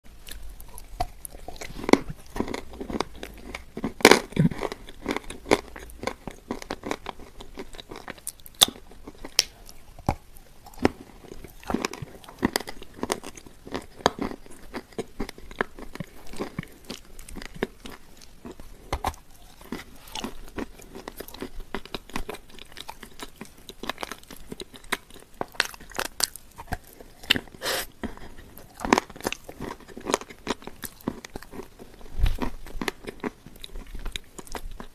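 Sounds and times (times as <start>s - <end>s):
chewing crumbly sweet: 0.1s - 34.9s.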